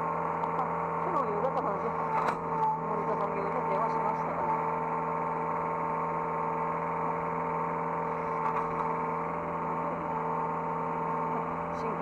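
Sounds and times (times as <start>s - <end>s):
excavator engine humming: 0.0s - 12.0s
hydraulic pump whine: 0.0s - 12.0s.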